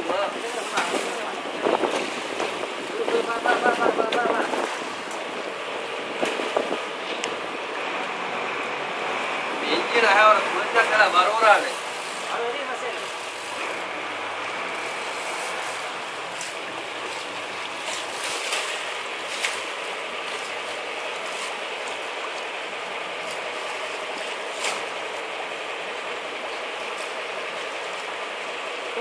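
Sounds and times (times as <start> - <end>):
water rushing along boat hull: 0.0 - 29.0.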